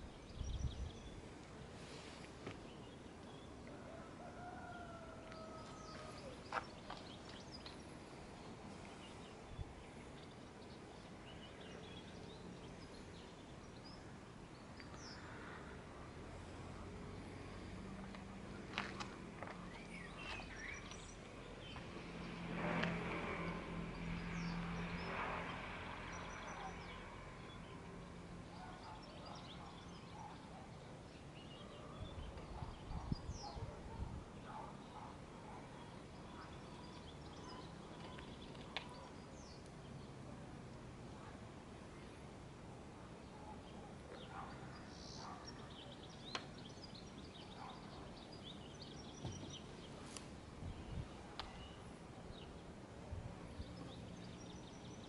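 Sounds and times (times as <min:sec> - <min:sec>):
distant birds chirping: 0:00.0 - 0:40.1, 0:43.1 - 0:55.0.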